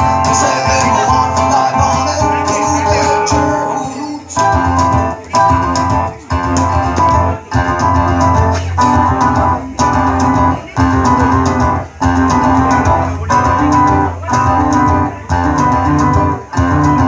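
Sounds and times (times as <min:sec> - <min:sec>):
live rock band with guitars: 0:00.0 - 0:17.0.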